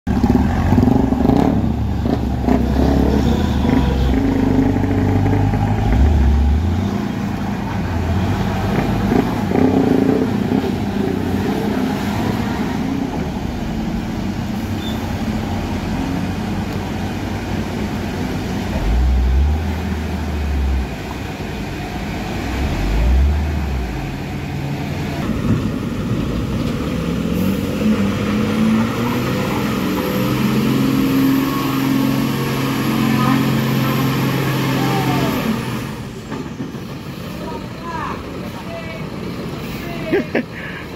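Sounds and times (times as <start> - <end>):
diesel truck engine drone: 0.1 - 40.9
motorcycle engines: 0.1 - 40.9
road traffic: 0.1 - 40.9.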